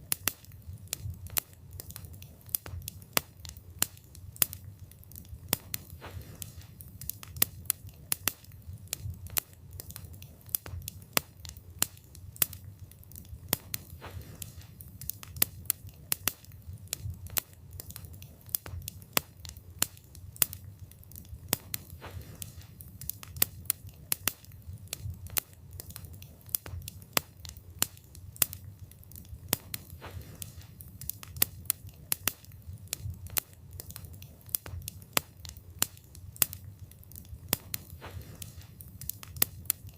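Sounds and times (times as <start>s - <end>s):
burning wood crackling and popping: 0.0s - 39.9s
wood fire rumbling: 0.0s - 39.9s.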